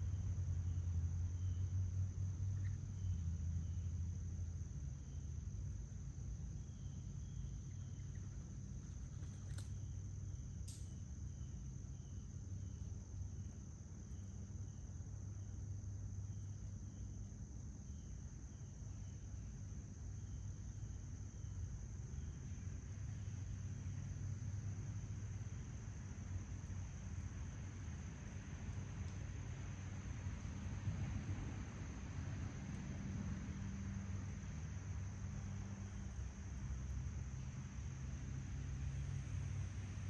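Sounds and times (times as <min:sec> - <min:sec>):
insects trilling: 0:00.0 - 0:40.0
low steady rumble: 0:00.0 - 0:40.0.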